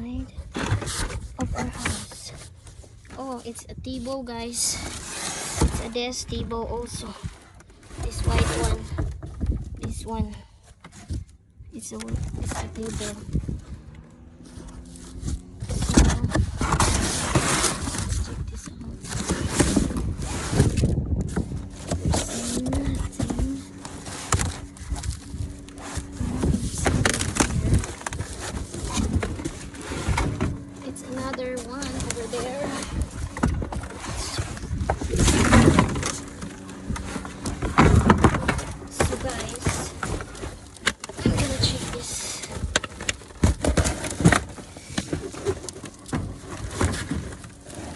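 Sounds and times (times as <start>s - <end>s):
items shifting among trash: 0.0s - 47.9s
rummaging knocks and clatter: 0.0s - 47.9s.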